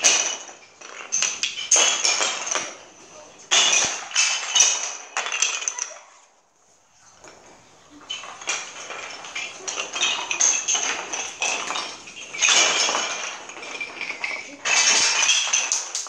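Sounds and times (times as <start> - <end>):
wooden sticks clattering on floor: 0.0 - 16.0.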